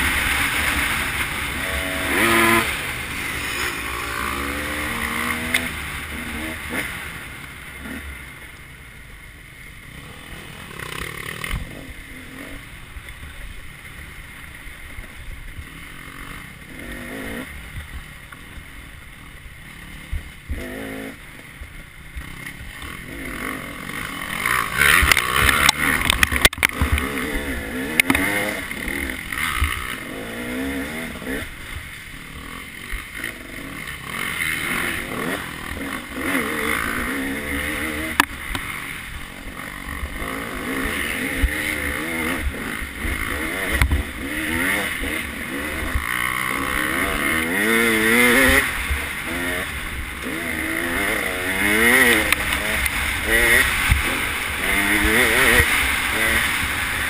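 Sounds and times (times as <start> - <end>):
dirt bike engine revving: 0.0 - 8.4, 9.8 - 57.0.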